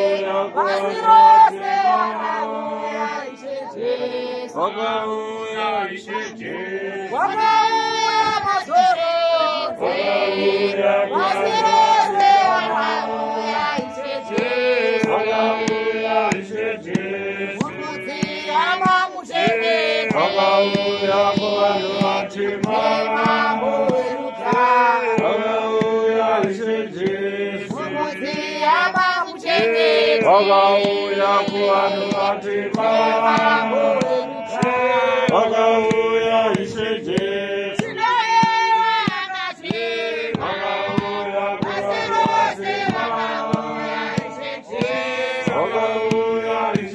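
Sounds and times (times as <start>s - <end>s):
congregation singing a hymn: 0.0s - 46.9s.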